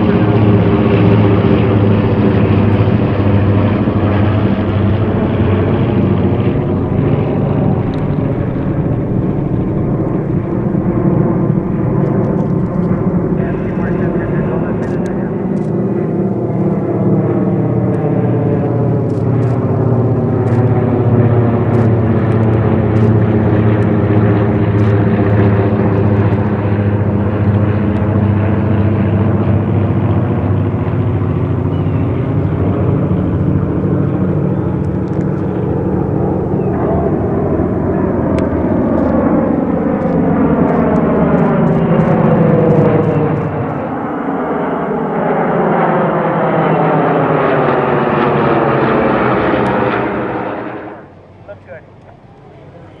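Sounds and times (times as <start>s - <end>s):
propeller plane droning overhead: 0.0s - 53.0s.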